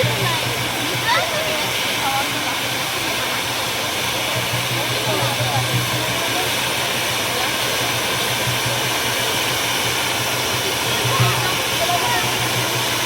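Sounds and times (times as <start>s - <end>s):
faint voices: 0.0s - 13.0s
fountain fireworks hissing: 0.0s - 13.0s.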